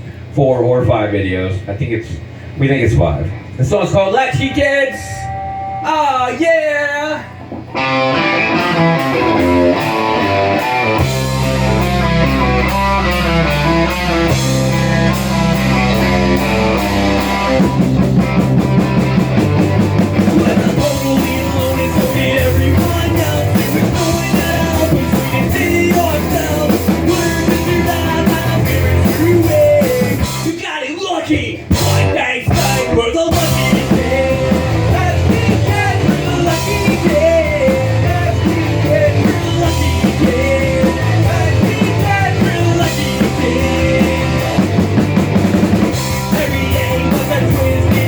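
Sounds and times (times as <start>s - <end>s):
rock band playing live: 4.2s - 30.6s, 31.6s - 48.0s.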